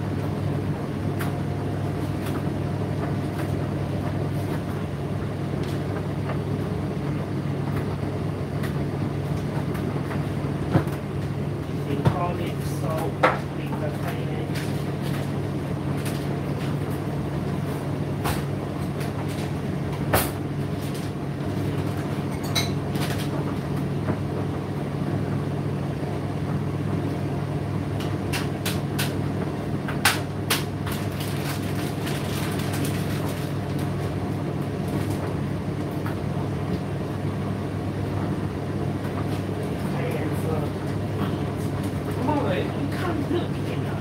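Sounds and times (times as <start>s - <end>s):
tumble dryer humming: 0.0s - 44.0s.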